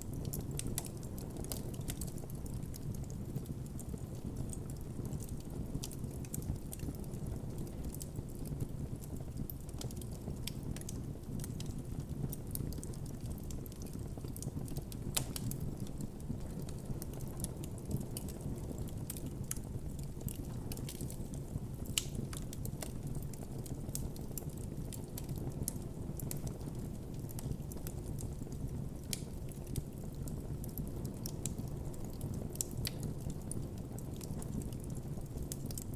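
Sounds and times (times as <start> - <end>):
campfire rumble: 0.0 - 35.9
wood crackling and popping: 0.0 - 35.9.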